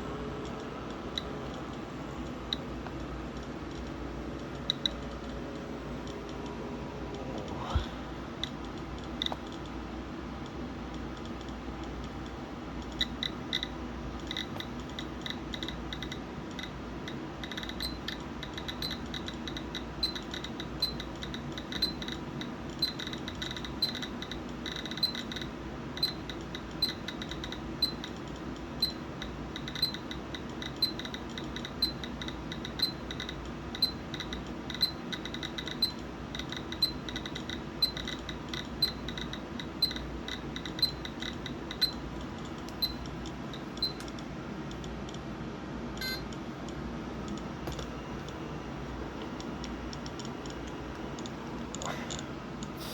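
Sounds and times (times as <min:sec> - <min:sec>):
faint steady hum: 0:00.0 - 0:52.9
radiation detector clicking: 0:00.4 - 0:06.6, 0:08.4 - 0:09.8, 0:10.4 - 0:45.2, 0:46.0 - 0:52.8.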